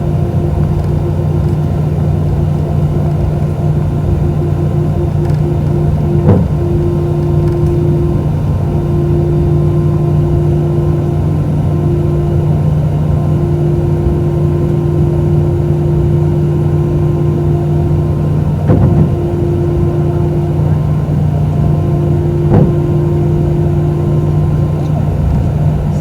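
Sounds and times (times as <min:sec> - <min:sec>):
jet engines drone in cabin: 0:00.0 - 0:26.0.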